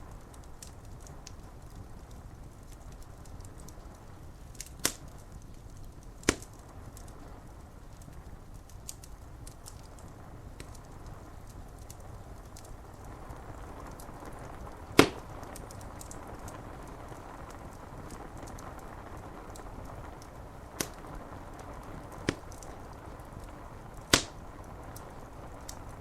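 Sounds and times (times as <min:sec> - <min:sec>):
rain on window glass: 0:00.0 - 0:26.0
wood fire crackling: 0:00.0 - 0:26.0.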